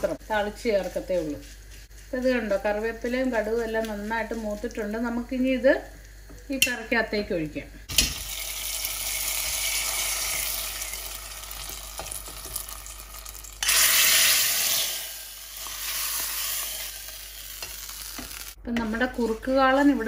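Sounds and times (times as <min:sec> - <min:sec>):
spices sizzling in hot ghee: 0:00.0 - 0:20.0.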